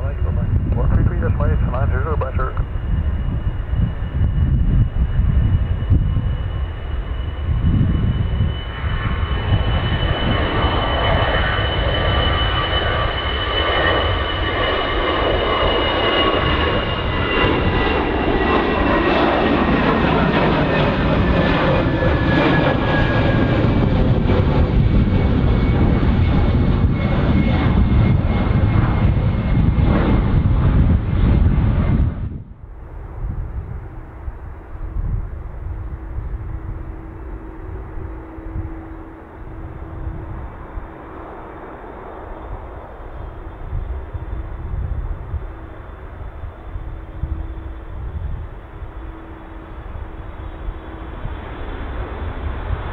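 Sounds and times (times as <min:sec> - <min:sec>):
airliner engines passing: 0:00.0 - 0:52.9.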